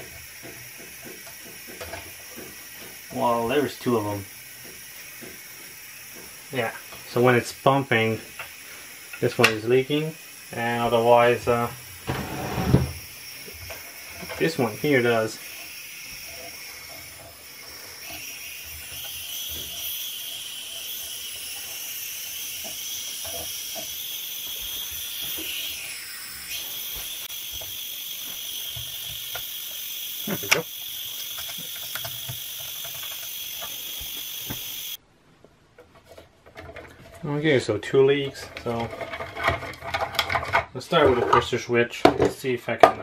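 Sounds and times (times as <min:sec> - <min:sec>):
compressed air hissing: 0:00.0 - 0:35.0.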